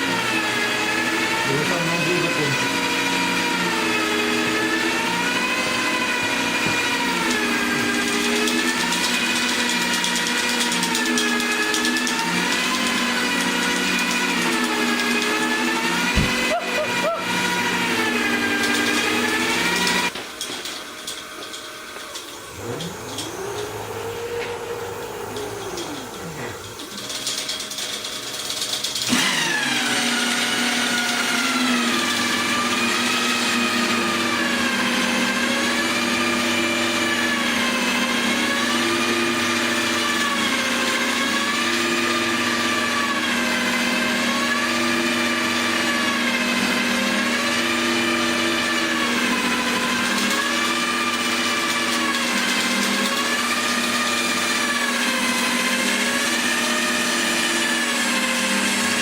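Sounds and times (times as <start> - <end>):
electric drill whining: 0.0 - 59.0.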